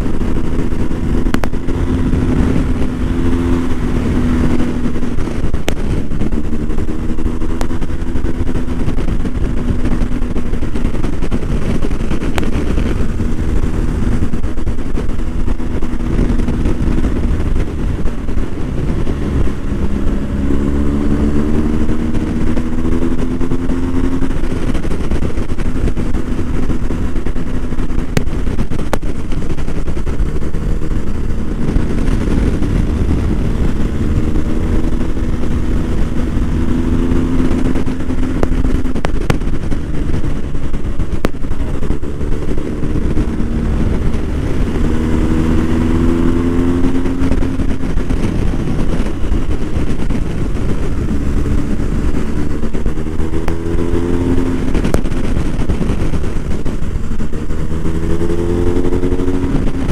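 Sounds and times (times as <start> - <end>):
motorcycle engine accelerating: 0.0 - 59.9
wind noise: 0.0 - 59.9.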